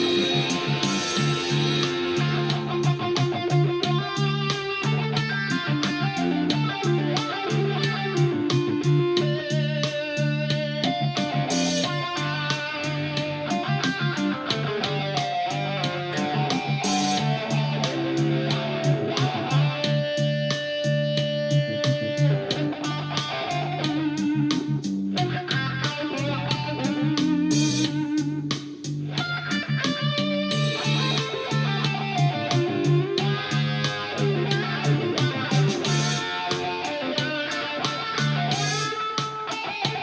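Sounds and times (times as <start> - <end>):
steady bass line: 0.0 - 39.0
electric guitar rapid picking: 0.0 - 40.0.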